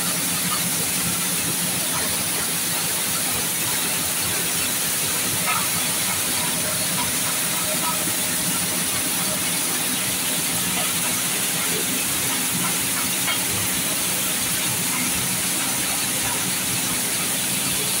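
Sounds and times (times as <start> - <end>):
machine hiss: 0.0 - 18.0.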